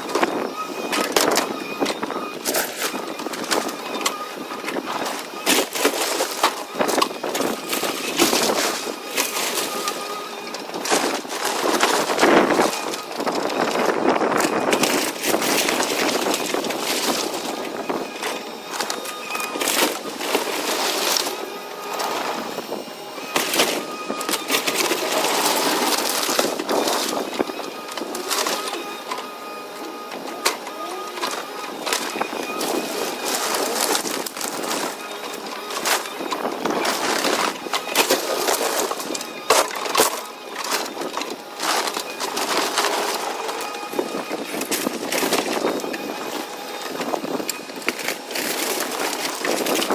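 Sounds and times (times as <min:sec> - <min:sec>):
wood framing cracking and splintering: 0:00.0 - 0:22.6, 0:23.3 - 0:49.9
excavator whine: 0:00.0 - 0:49.9
debris clattering and crashing: 0:00.1 - 0:22.5, 0:23.2 - 0:29.2, 0:30.4 - 0:49.9.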